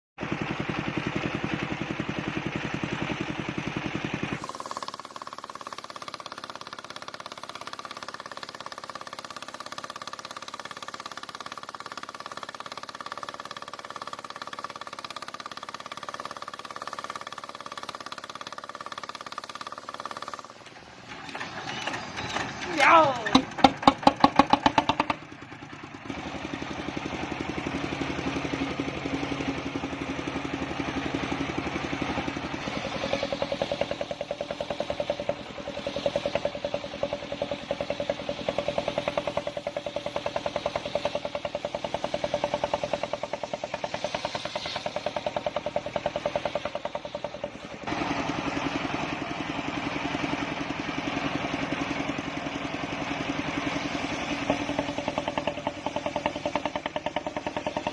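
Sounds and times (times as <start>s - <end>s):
sawmill engine running: 0.2s - 57.9s.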